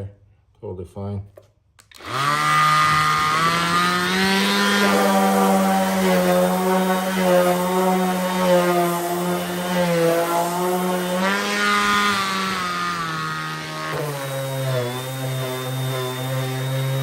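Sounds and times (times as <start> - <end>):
orbital sander motor hum: 2.0 - 17.0.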